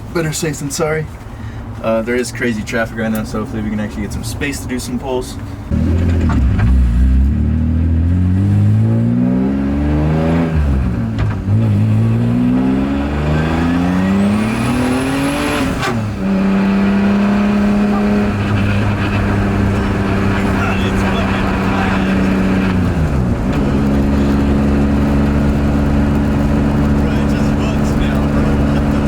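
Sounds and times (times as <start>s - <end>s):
car engine accelerating hard: 5.7s - 29.0s.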